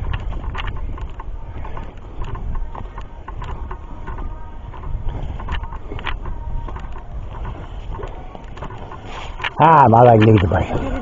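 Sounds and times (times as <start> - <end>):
footsteps on dirt trail: 0.0 - 11.0
low microphone rumble: 0.0 - 11.0.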